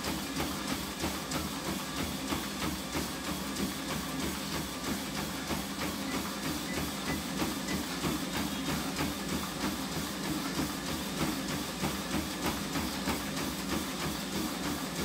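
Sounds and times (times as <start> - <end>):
running footfalls: 0.0 - 15.0
treadmill motor and belt hum: 0.0 - 15.0.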